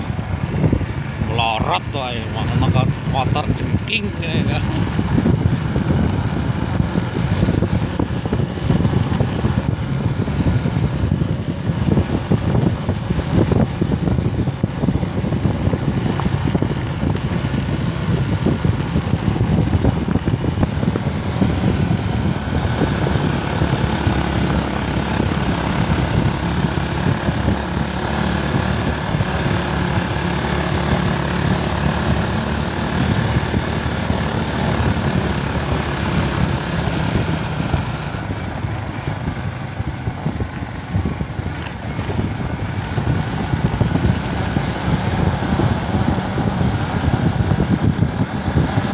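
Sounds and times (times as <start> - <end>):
motorcycle engine running: 0.0 - 48.9
road rumble: 0.0 - 48.9
wind buffeting: 0.0 - 48.9.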